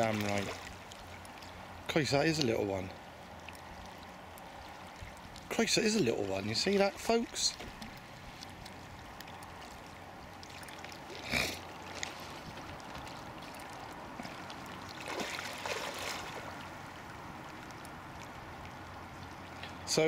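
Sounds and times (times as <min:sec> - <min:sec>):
fish splashing: 0:00.0 - 0:01.8, 0:03.0 - 0:19.8
water lapping: 0:00.0 - 0:20.0.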